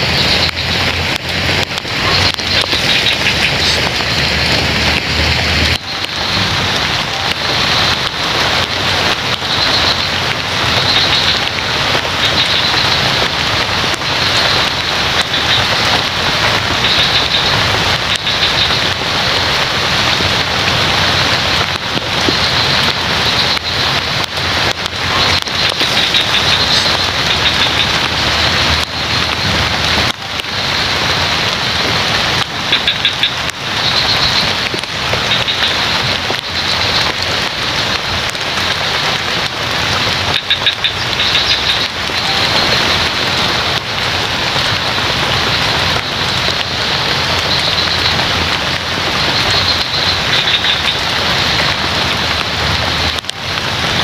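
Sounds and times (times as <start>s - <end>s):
frogs calling: 0.0s - 53.2s
rain falling: 0.0s - 54.0s.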